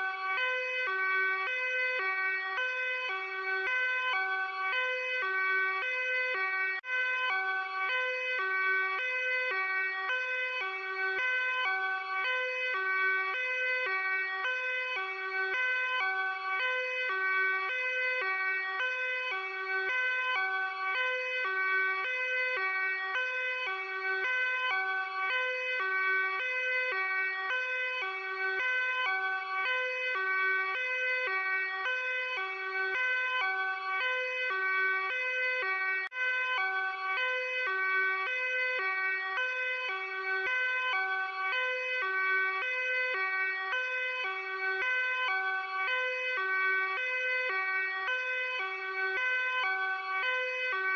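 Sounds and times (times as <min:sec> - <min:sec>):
police siren two-tone: 0:00.0 - 0:50.9.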